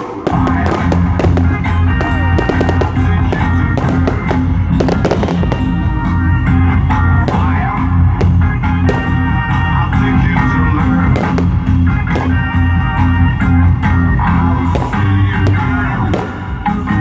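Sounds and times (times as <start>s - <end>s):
fireworks bangs and crackles: 0.0s - 17.0s
loud music with low beat: 0.0s - 17.0s.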